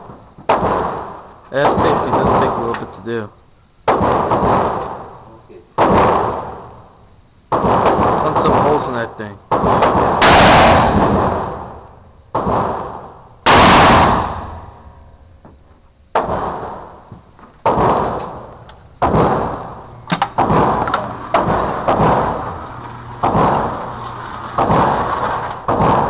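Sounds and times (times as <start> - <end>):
shotgun blasts echoing: 0.5 - 3.2, 3.8 - 5.2, 5.8 - 6.9, 7.5 - 15.2, 16.1 - 22.6, 23.2 - 23.9, 24.6 - 26.0.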